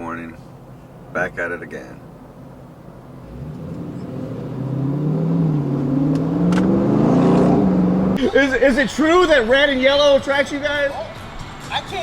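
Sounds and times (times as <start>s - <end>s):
car engine revving: 2.0s - 12.0s.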